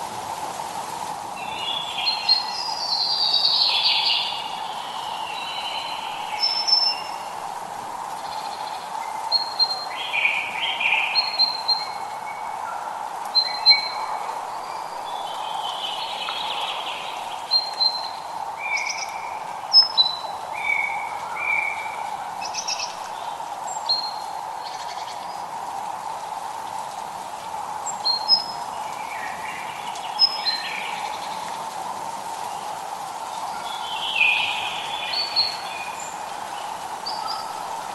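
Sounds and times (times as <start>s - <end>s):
steady background hiss: 0.0s - 37.9s
songbirds chirping: 1.2s - 37.9s.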